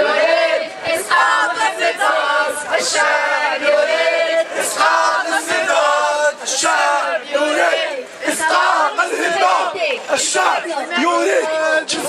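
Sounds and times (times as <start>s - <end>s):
crowd chanting: 0.0s - 12.0s.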